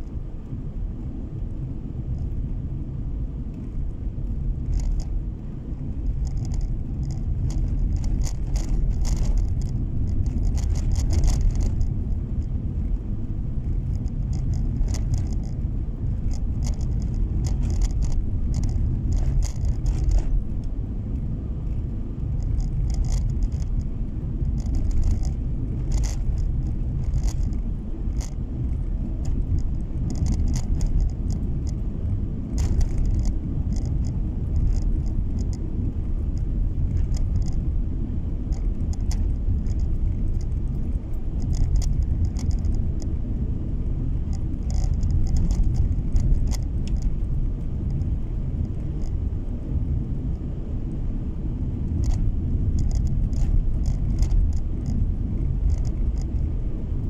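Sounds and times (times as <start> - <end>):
car driving on snowy road: 0.0 - 57.0
small rattling clicks: 4.6 - 5.2, 6.0 - 43.2, 44.1 - 50.4, 51.8 - 56.6.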